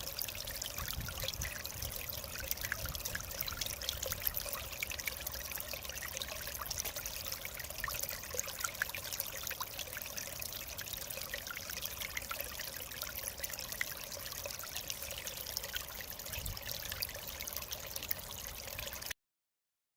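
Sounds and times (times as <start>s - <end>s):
stream flowing over rocks: 0.0s - 19.1s.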